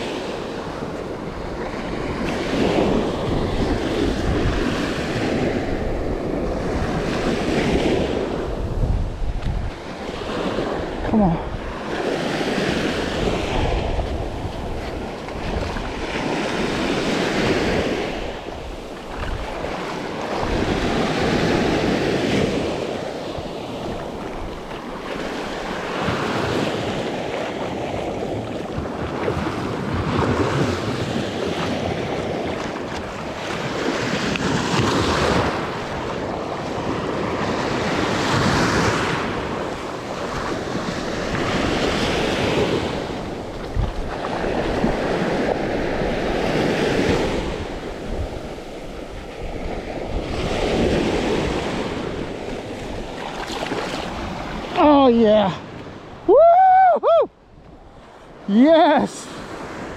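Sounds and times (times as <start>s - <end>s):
surf breaking on beach: 0.0s - 57.0s
wind buffeting microphone: 0.0s - 58.0s.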